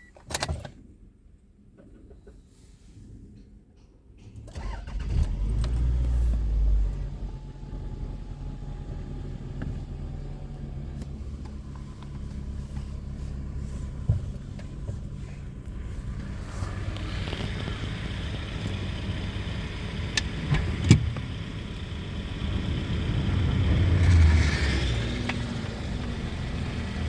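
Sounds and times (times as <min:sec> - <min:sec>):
car engine starting and idling: 0:04.0 - 0:27.0.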